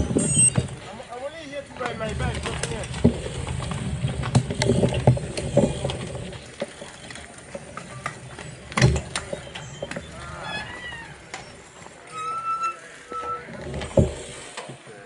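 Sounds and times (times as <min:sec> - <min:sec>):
bikes clicking and rattling: 0:00.0 - 0:15.0
low rumble of tyres on paving: 0:00.0 - 0:15.0.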